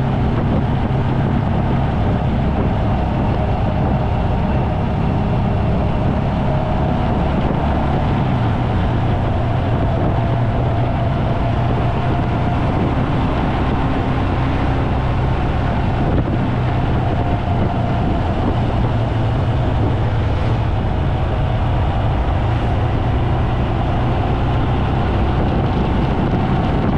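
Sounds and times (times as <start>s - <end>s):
vehicle low rumble: 0.0s - 26.9s.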